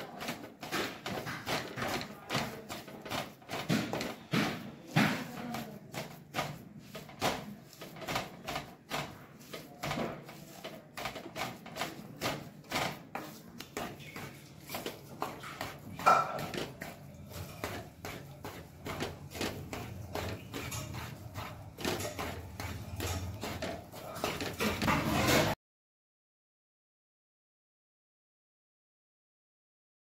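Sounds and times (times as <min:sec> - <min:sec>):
wooden spatula scraping a pan: 0:00.0 - 0:25.6.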